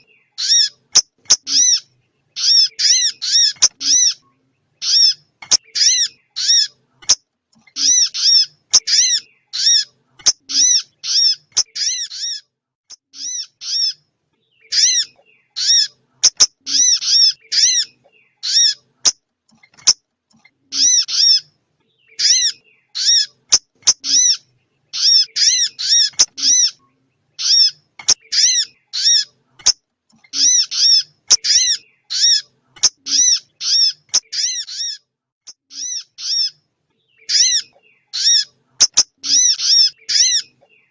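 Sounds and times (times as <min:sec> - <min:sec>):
recorded bird chipping calls: 0:00.0 - 0:40.9.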